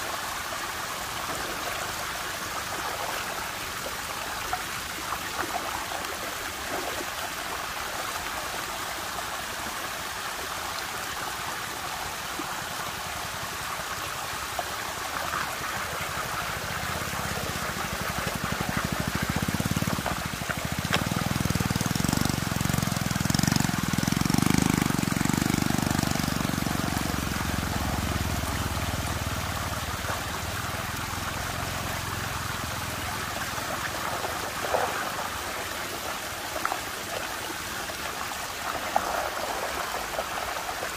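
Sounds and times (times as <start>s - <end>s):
water rushing in a whirlpool: 0.0s - 40.9s.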